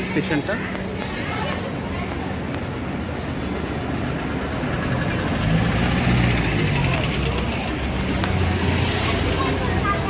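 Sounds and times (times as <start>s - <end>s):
people's voices: 0.0s - 10.0s
vehicle engine humming: 0.0s - 10.0s.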